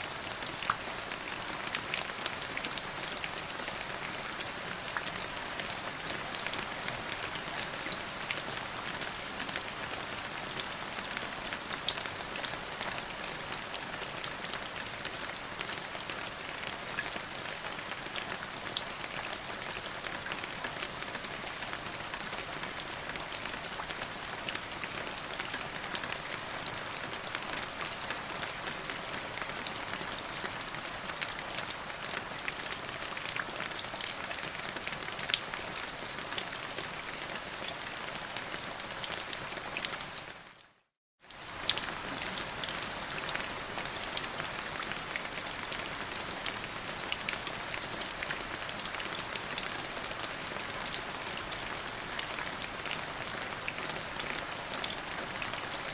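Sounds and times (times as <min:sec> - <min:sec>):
rain pattering on a surface: 0:00.0 - 0:55.9.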